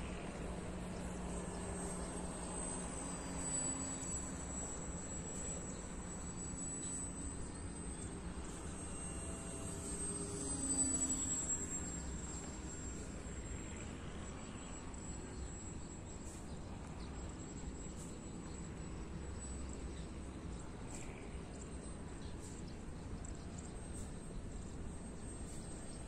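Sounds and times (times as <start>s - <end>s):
high-pitched insect drone: 0.0s - 26.0s
model plane electric motor: 0.0s - 26.0s.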